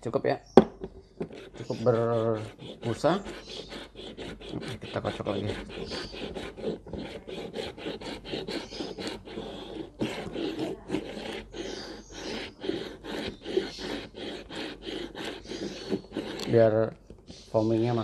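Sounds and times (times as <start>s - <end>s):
milk frothing swishing: 1.3s - 16.7s.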